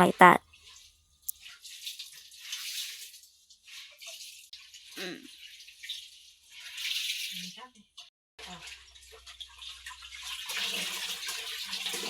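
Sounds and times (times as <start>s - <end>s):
water and cloth sloshing: 0.5s - 12.0s.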